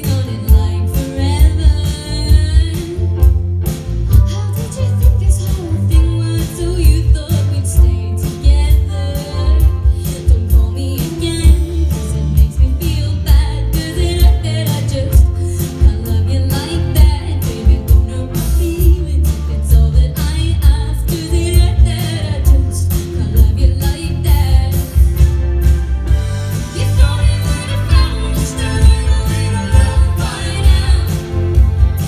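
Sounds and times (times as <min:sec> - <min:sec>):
woman singing: 0:00.0 - 0:03.4, 0:04.1 - 0:25.2, 0:26.6 - 0:32.0
pop band playing: 0:00.0 - 0:32.0.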